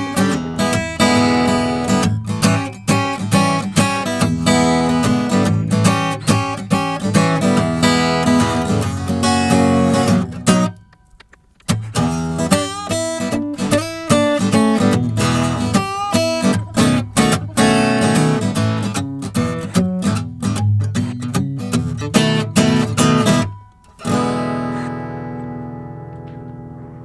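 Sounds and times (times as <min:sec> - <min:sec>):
strummed acoustic guitar music: 0:00.0 - 0:27.0.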